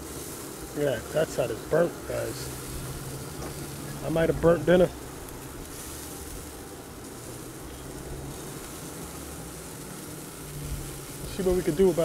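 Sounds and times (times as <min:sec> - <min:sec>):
pellet grill humming: 0:00.0 - 0:12.0.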